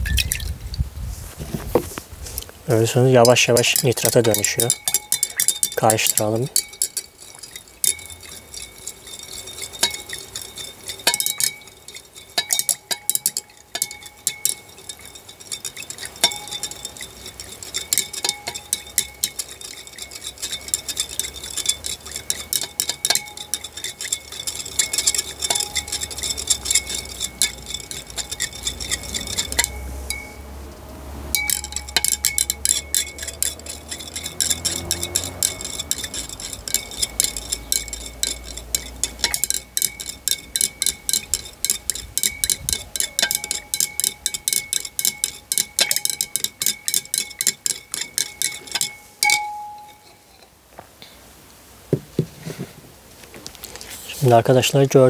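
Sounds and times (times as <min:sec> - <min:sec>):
stirring rod clinking in beaker: 0:02.8 - 0:30.5, 0:31.3 - 0:50.6.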